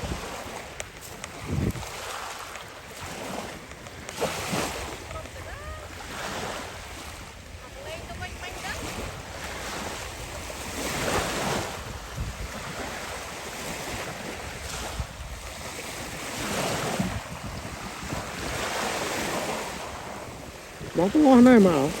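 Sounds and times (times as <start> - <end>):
ocean surf washing on shore: 0.0 - 22.0
wind buffeting microphone: 0.0 - 22.0.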